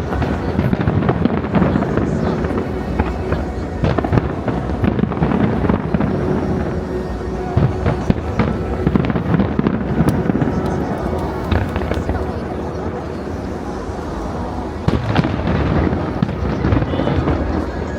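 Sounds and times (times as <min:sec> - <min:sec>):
fireworks bursting: 0:00.0 - 0:17.9
music playing: 0:00.0 - 0:17.9.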